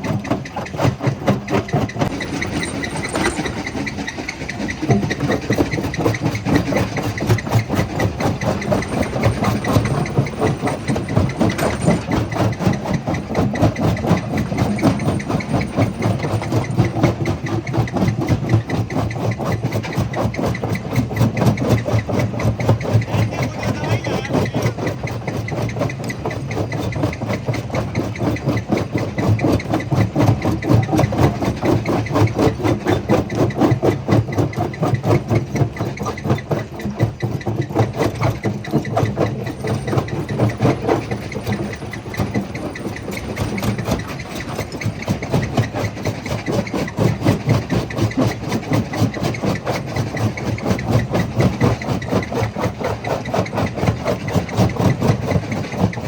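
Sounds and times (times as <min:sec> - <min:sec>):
jaw crusher pounding: 0:00.0 - 0:56.0.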